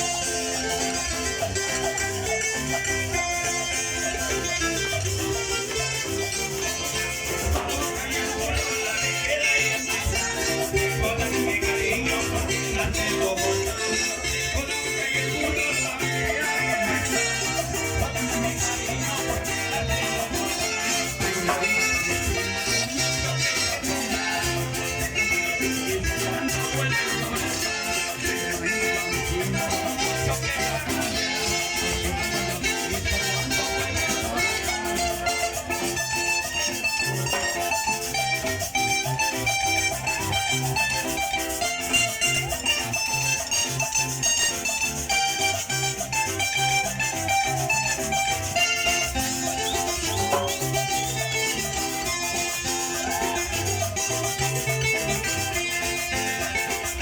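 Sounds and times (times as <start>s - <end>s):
band playing plucked strings: 0.0s - 57.0s
shaken percussion rhythm: 0.0s - 57.0s.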